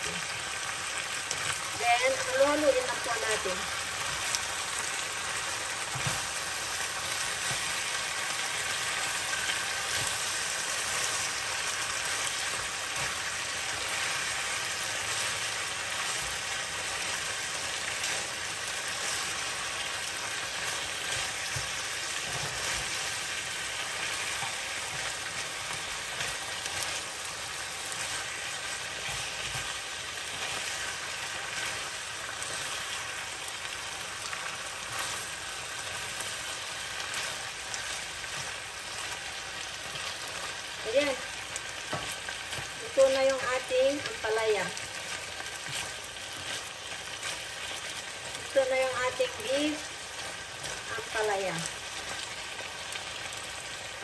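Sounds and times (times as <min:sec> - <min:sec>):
meat and vegetables sizzling in pan: 0:00.0 - 0:54.0.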